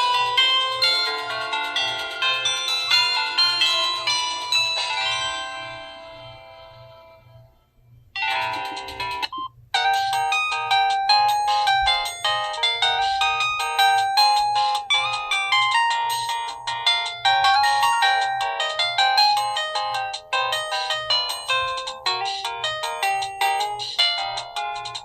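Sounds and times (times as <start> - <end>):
phone ringtone melodies: 0.0 - 7.5, 8.2 - 25.0.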